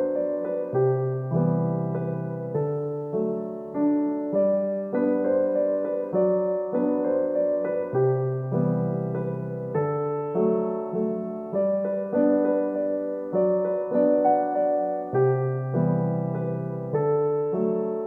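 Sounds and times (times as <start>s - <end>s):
gentle piano piece: 0.0s - 18.0s.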